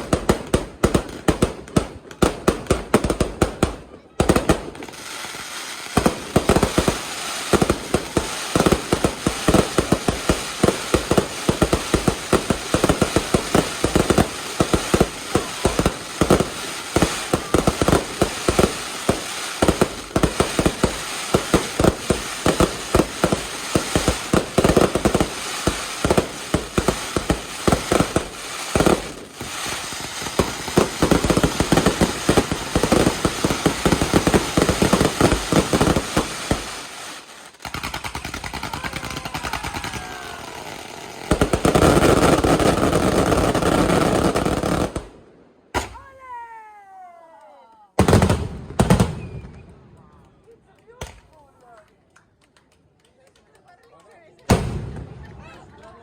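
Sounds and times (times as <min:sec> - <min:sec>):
fireworks bangs and crackles: 0:00.0 - 0:46.0, 0:48.0 - 0:51.7, 0:53.6 - 0:56.0.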